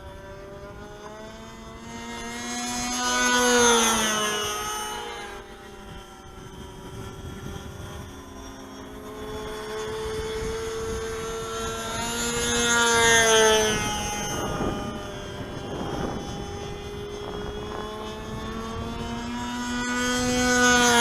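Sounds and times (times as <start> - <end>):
model plane engine buzzing past: 0.0 - 21.0.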